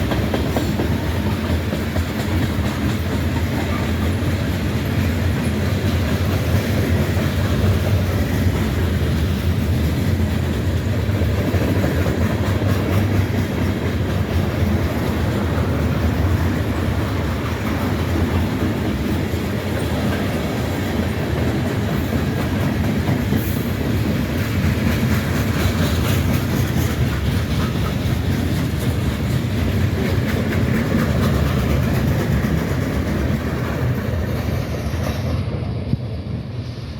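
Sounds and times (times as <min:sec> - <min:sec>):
wheels clacking over rail joints: 0:00.0 - 0:35.9
freight train cars rumbling: 0:00.0 - 0:36.9.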